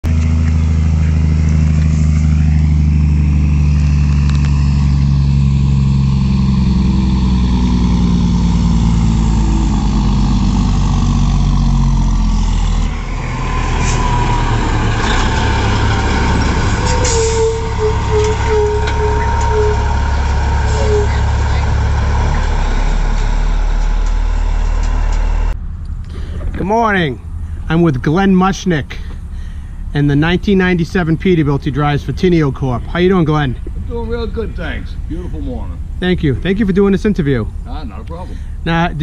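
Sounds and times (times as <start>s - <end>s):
brakes squealing: 0.0s - 39.0s
truck diesel engine running: 0.0s - 39.0s.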